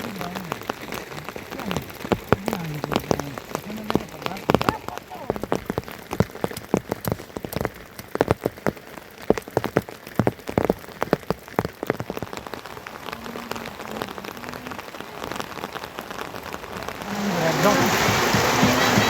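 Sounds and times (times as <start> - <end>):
big raindrops tapping: 0.0 - 19.0
rain falling: 0.0 - 19.0.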